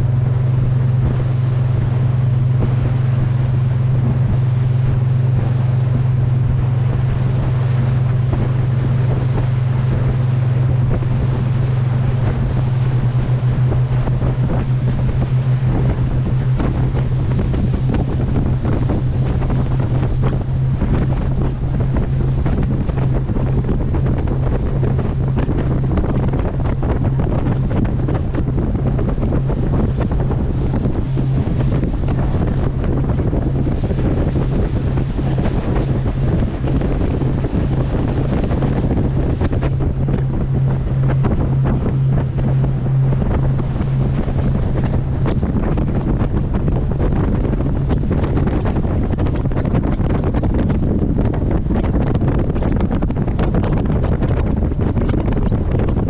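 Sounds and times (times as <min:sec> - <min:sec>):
boat engine running: 0:00.0 - 0:56.0
water knocking on hull: 0:00.0 - 0:56.0
water rushing past: 0:00.0 - 0:56.0
wind buffeting microphone: 0:00.0 - 0:56.0.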